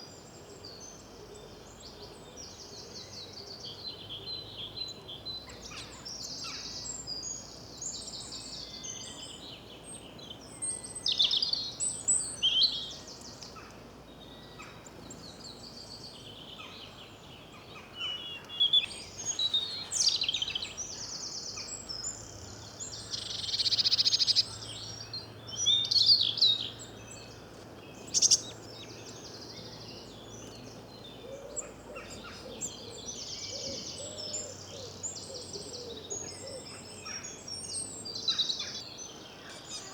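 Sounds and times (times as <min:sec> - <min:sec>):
background birdsong: 0:00.0 - 0:39.9
songbirds chirping and trilling: 0:00.0 - 0:39.9.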